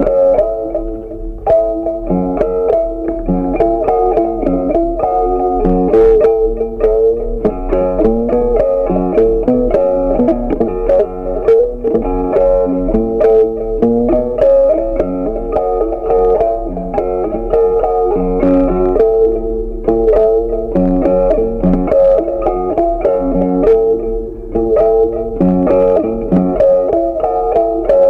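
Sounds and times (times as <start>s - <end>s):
plucked guitar tune: 0.0s - 28.0s.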